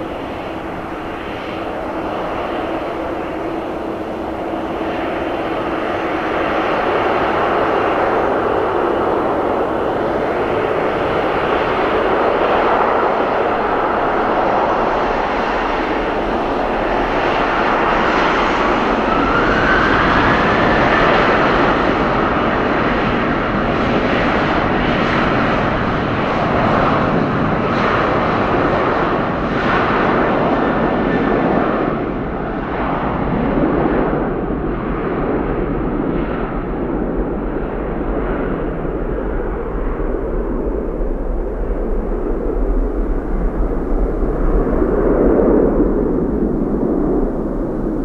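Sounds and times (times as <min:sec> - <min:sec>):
jet engine roar: 0:00.0 - 0:48.0
jet engine whine: 0:00.0 - 0:48.0.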